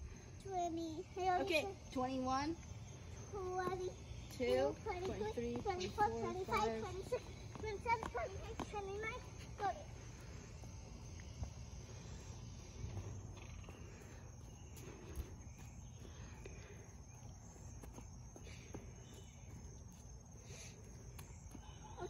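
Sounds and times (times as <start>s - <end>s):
high insect hum: 0.0s - 22.0s
child's footsteps on concrete: 3.2s - 22.0s.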